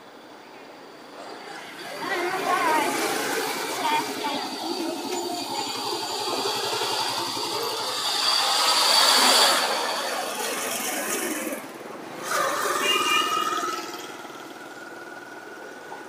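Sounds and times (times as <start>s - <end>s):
busy street noise: 0.0s - 16.0s
vehicle passing close: 0.9s - 16.0s.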